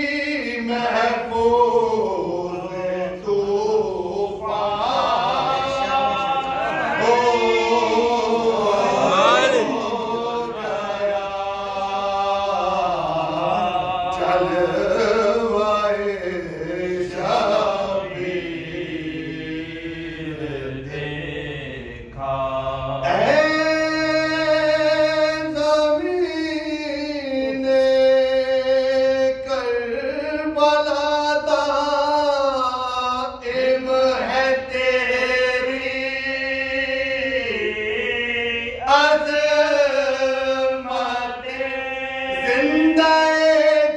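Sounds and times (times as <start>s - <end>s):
men chanting: 0.0s - 43.9s.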